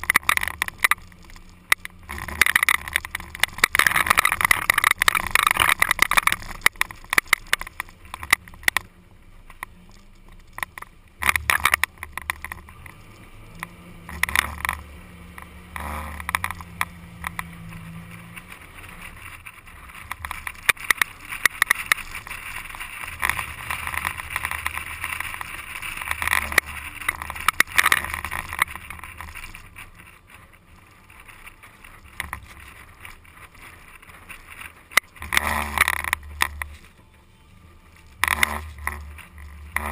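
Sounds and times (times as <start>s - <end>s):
knocks and crackles: 0.0s - 39.9s
vehicle running noise: 0.0s - 39.9s.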